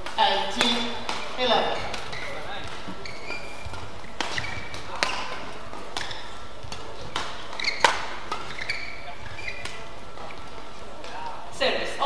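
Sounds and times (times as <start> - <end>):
badminton racket hitting shuttlecock: 0.0 - 10.4
shoes squeaking on court floor: 0.0 - 11.5.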